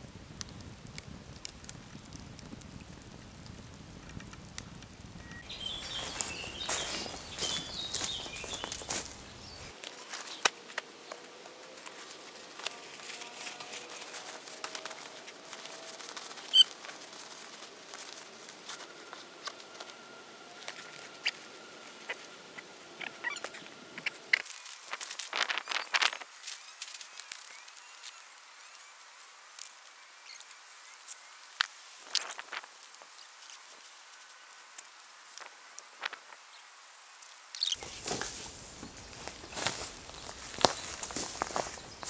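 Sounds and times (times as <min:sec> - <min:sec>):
rustling of camping gear: 0:05.4 - 0:42.0.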